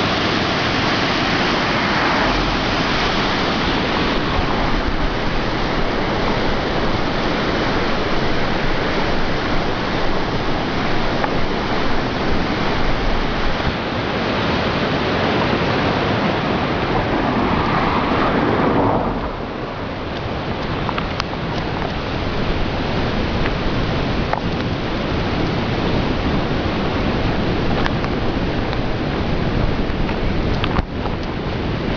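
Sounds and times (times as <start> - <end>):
river rushing through weir: 0.0 - 31.9.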